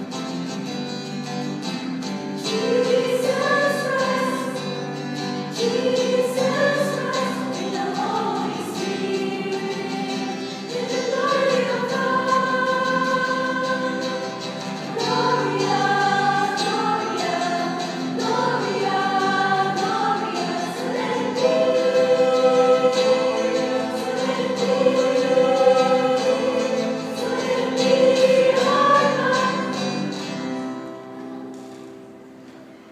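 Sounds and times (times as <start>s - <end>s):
choir singing in parts: 2.4s - 31.7s.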